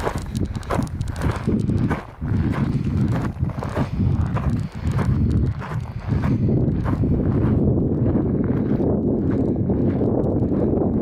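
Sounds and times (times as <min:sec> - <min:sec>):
footsteps on ground: 0:00.0 - 0:11.0
wind rumble on microphone: 0:00.0 - 0:11.0.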